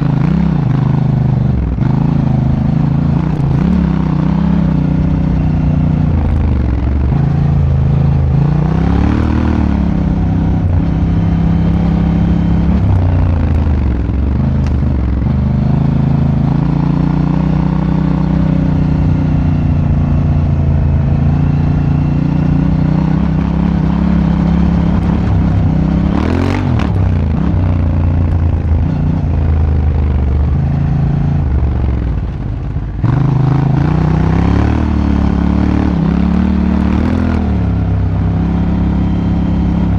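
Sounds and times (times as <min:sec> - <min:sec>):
motorcycle engine revving: 0:00.0 - 0:39.9
motorcycle engine while riding: 0:00.0 - 0:39.9.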